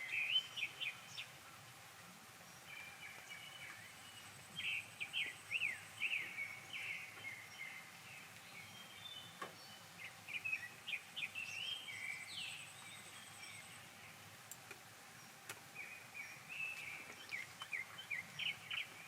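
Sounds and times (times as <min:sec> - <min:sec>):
faint background hiss: 0:00.0 - 0:19.0
small songbirds twittering: 0:00.0 - 0:19.0.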